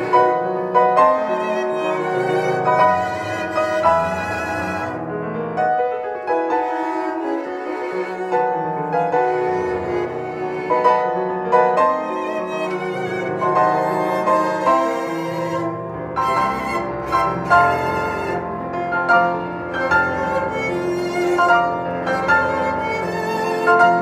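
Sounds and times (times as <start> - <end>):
piano accompaniment: 0.0 - 24.0
violin bowed melody: 0.0 - 24.0.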